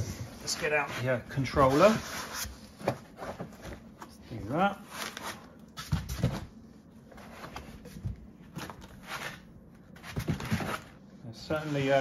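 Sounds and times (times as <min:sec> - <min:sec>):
scrapes and rustling of packaging: 0:00.0 - 0:12.0.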